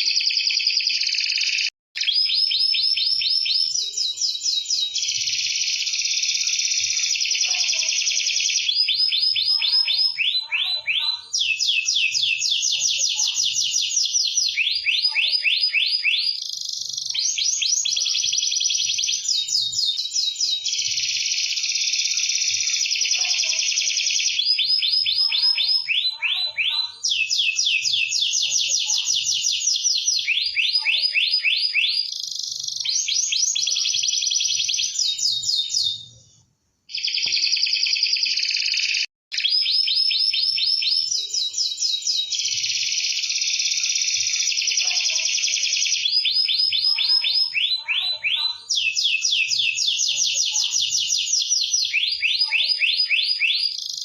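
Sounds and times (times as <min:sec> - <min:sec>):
canary singing trills: 0:00.0 - 0:36.2, 0:36.9 - 0:54.0.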